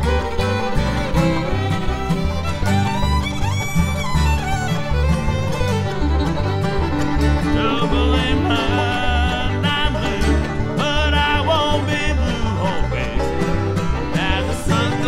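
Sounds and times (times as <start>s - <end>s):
banjo rolls: 0.0s - 15.0s
bass beat: 0.0s - 15.0s
bluegrass band playing: 0.0s - 15.0s
strummed guitar: 0.0s - 15.0s.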